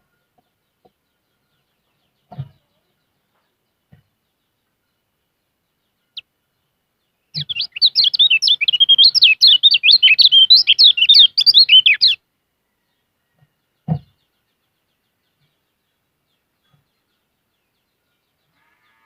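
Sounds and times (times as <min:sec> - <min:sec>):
songbird singing fast chirps: 0:00.0 - 0:18.5.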